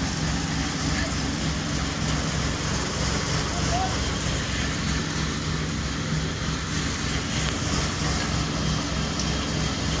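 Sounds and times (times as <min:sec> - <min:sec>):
combine harvester engine droning: 0:00.0 - 0:10.0.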